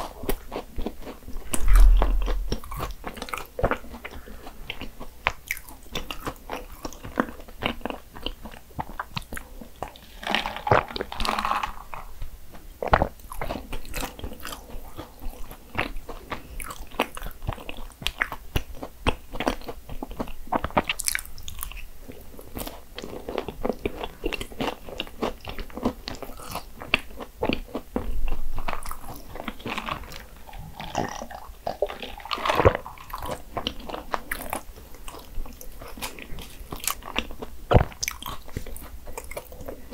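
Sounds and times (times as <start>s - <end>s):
crunching flaky pastry: 0.0s - 39.9s.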